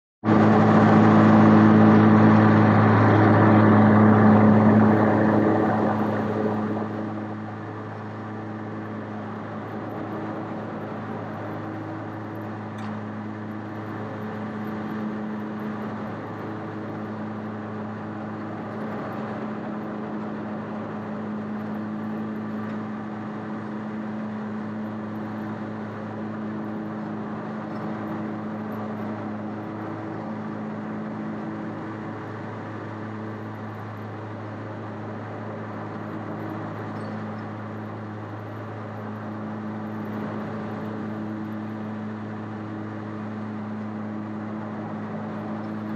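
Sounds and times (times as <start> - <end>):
lawn mower engine droning: 0.2 - 45.9.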